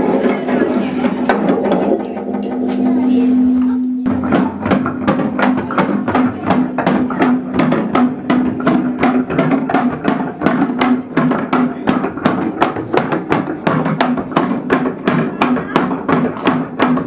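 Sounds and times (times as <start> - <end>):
rapid knocking and tapping on objects: 0.0 - 2.9, 4.1 - 17.0.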